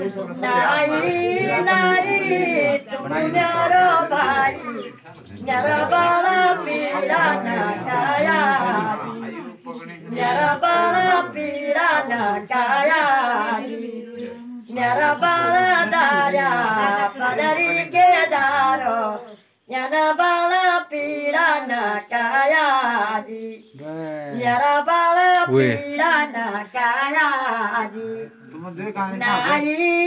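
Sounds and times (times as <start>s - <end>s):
woman singing unaccompanied: 0.0s - 9.5s, 10.1s - 28.6s, 29.2s - 30.0s.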